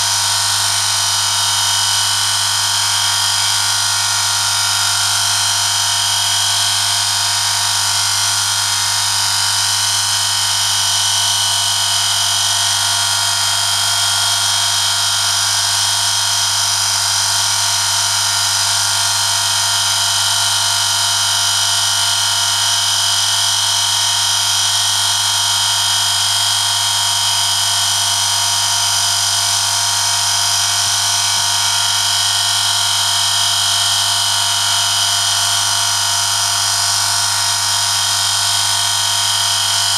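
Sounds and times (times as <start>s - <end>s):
electric motor running: 0.0s - 39.9s.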